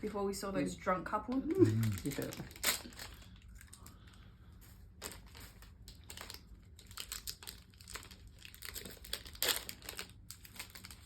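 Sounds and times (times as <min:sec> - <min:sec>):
plastic wrapper crinkling and tearing: 0:01.3 - 0:11.0.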